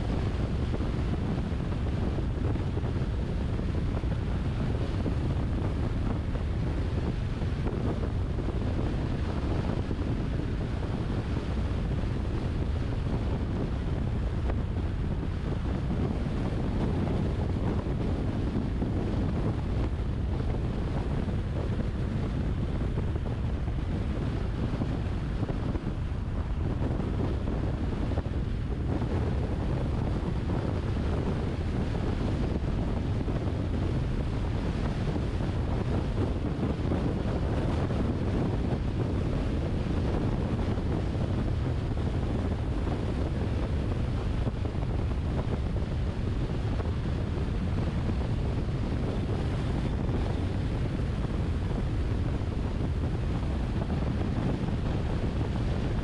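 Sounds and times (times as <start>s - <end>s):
car tyre and wind noise: 0.0s - 56.0s.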